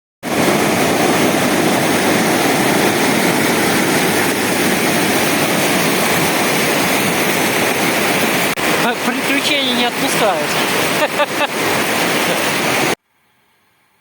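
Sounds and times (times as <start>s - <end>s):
river rapids rushing: 0.2s - 13.0s.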